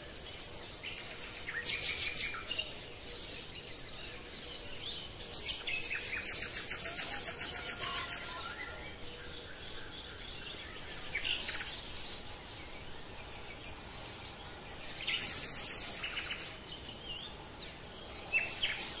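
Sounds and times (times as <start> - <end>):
background hiss: 0.0 - 19.0
birds chirping: 0.0 - 19.0.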